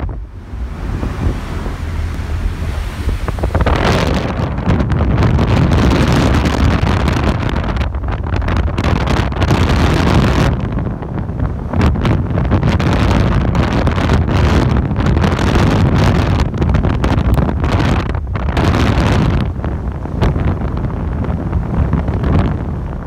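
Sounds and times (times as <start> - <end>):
sea waves breaking on bow: 0.0 - 23.0
wind buffeting microphone: 0.0 - 23.0.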